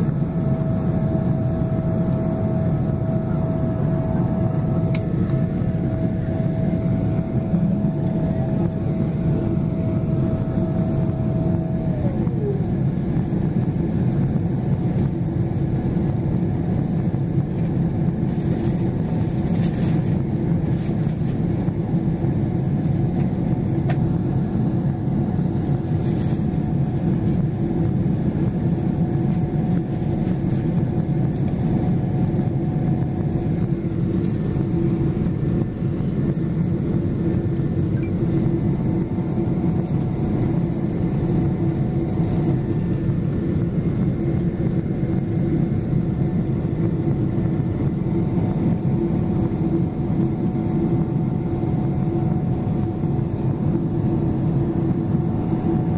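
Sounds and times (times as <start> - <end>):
airplane cabin engine drone: 0.0 - 55.9.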